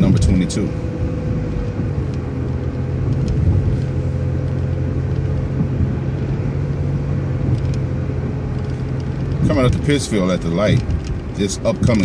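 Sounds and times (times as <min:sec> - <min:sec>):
bus engine hum: 0:00.0 - 0:12.0
road noise: 0:00.0 - 0:12.0.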